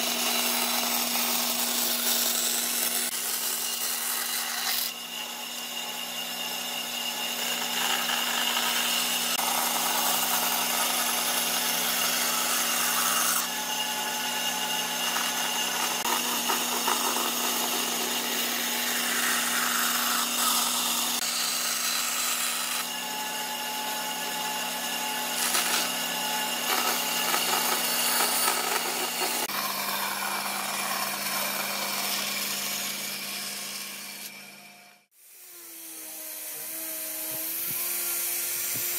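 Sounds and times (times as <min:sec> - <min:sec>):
band saw cutting wood: 0:00.0 - 0:38.9
band saw motor hum: 0:00.0 - 0:38.9.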